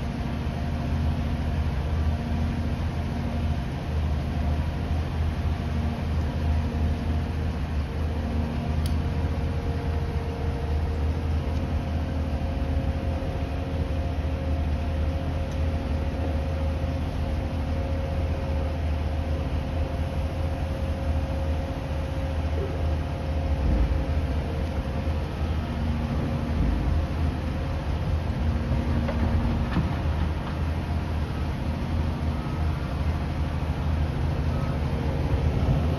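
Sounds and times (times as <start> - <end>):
diesel engine rumbling: 0.0 - 35.9
faint steady whine: 0.0 - 35.9.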